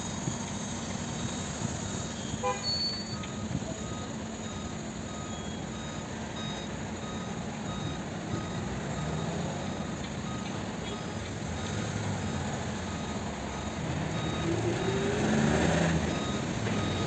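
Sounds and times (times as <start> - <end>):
excavator engine running: 0.0 - 17.0
faint repeating beep: 1.2 - 17.0.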